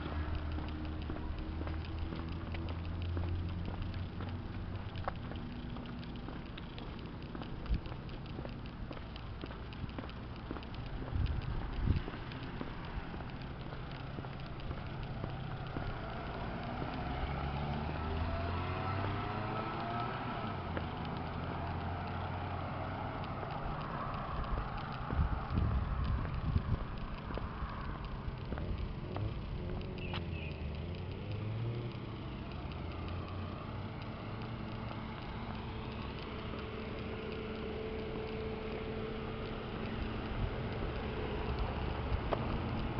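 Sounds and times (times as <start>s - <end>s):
car engine accelerating: 0.0s - 42.9s
low street background noise: 0.0s - 42.9s.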